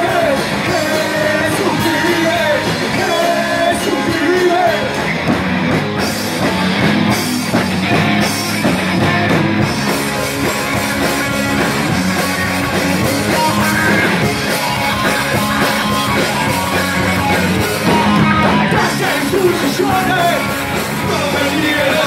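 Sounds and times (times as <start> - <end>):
distorted electric guitars: 0.0 - 22.0
drum kit: 0.0 - 22.0.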